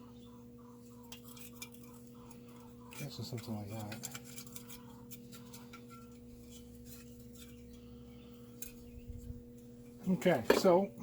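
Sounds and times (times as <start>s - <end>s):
steady room hum: 0.0s - 11.0s.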